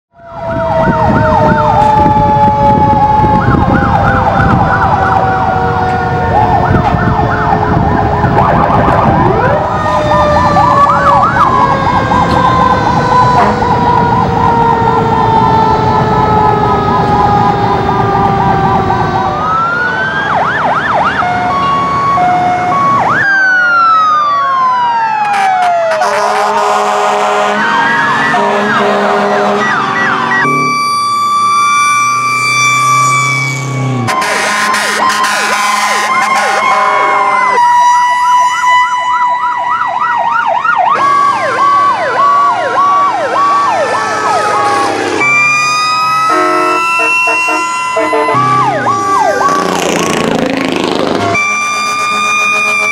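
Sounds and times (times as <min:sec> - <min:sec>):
mechanical sirens winding down: 0:00.1 - 0:52.9
warbling electronic sirens: 0:00.1 - 0:52.9
engines rumbling: 0:00.2 - 0:52.9.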